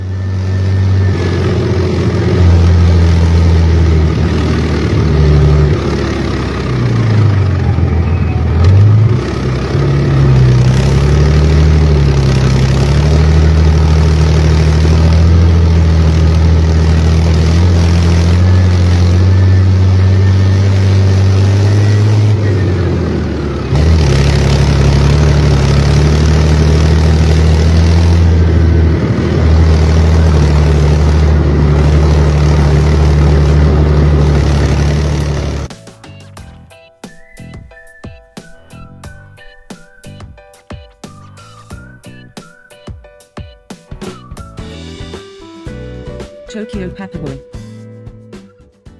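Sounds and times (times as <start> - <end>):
engine running: 0.0 - 37.8, 44.0 - 48.3.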